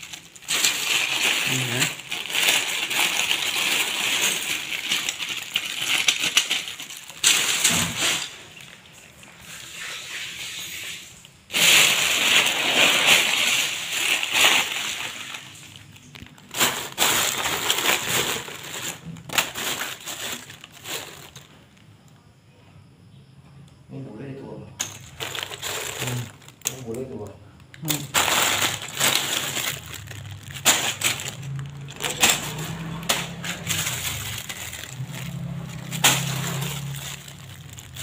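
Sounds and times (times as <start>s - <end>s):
plastic bricks clattering: 0.0s - 9.0s, 11.5s - 21.8s, 24.8s - 27.0s, 27.7s - 38.0s
plastic bags rustling: 0.0s - 10.8s, 11.5s - 21.9s, 24.8s - 38.0s.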